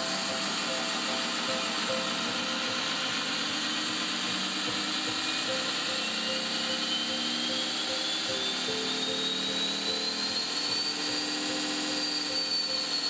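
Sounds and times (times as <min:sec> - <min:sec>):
whine climbing in pitch: 0:00.0 - 0:13.0.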